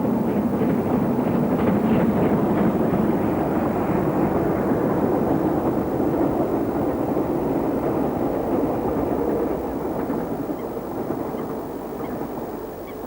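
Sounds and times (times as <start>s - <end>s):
steam locomotive and coaches rumbling: 0.0s - 13.0s.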